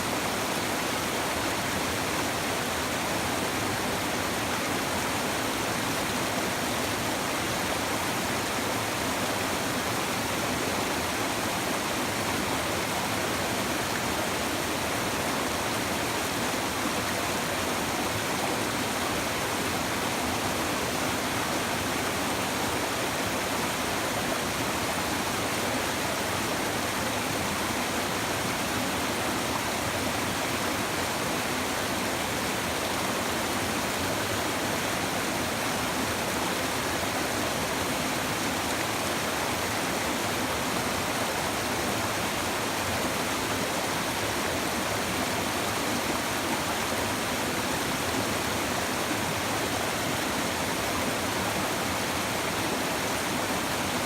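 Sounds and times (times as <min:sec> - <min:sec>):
river babbling over stones: 0:00.0 - 0:54.0.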